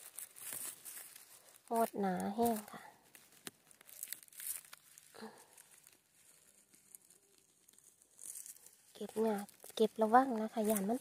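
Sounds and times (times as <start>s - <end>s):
rustling moss and grass: 0.0s - 11.0s.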